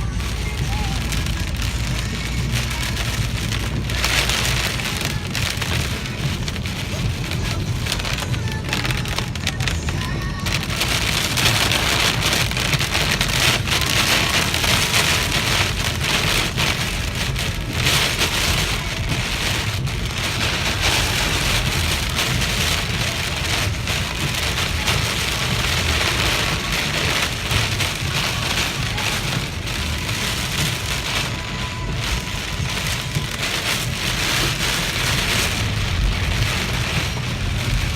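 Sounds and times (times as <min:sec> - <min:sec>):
heavy rain pouring: 0:00.0 - 0:37.9.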